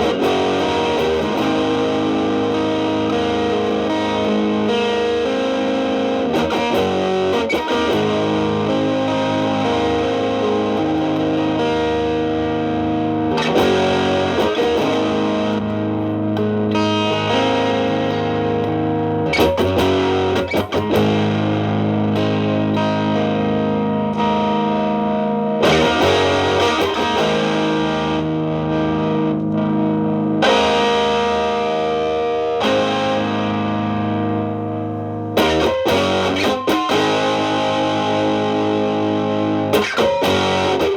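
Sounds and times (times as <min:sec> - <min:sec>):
distorted electric guitar chords: 0:00.0 - 0:40.9.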